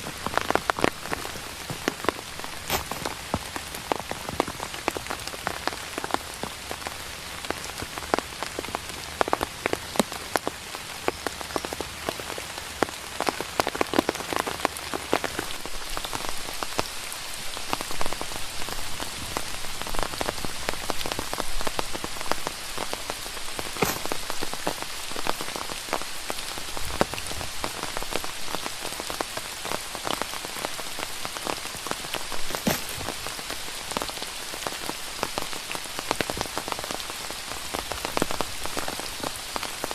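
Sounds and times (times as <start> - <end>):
rain falling: 0.0 - 39.9
raindrops ticking close by: 0.0 - 39.9.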